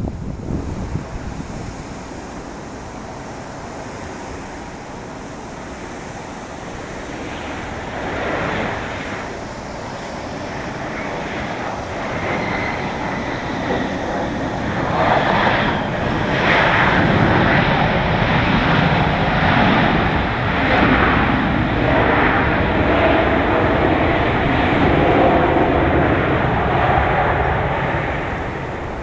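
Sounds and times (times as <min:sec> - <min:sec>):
distant jet engines rushing: 0:00.0 - 0:29.0.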